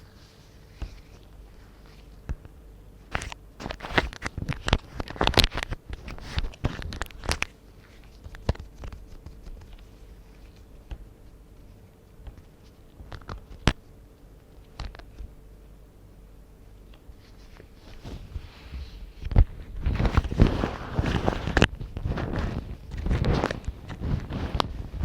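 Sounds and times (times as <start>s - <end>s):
rubber gloves tapping and crinkling: 0.0s - 15.4s, 16.8s - 25.0s.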